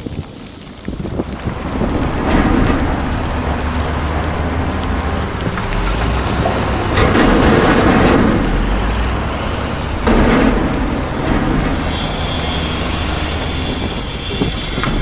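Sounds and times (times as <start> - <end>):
bulldozer diesel engine running: 0.1 - 15.0.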